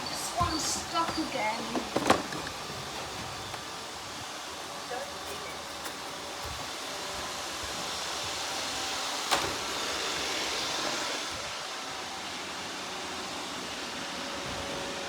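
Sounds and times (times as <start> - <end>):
robot vacuum cleaners humming: 0.0 - 15.0.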